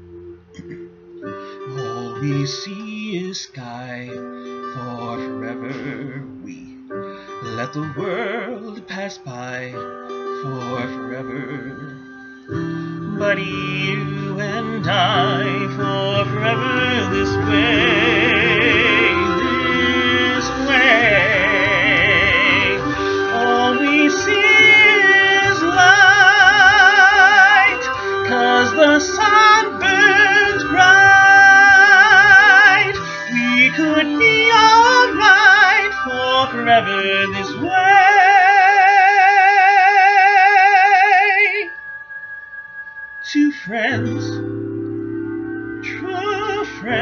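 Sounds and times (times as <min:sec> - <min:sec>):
instrumental backing: 0:00.0 - 0:47.0
man singing with vibrato: 0:01.6 - 0:41.8, 0:43.2 - 0:44.6, 0:45.8 - 0:47.0.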